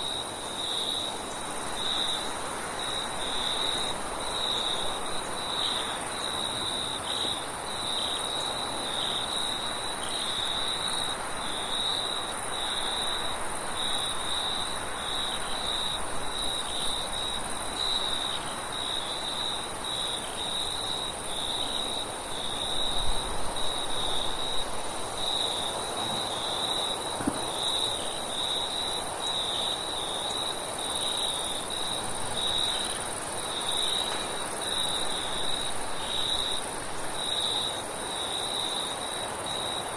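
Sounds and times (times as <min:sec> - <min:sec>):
crickets chirping: 0:00.0 - 0:39.9
high insect hiss: 0:00.0 - 0:39.9.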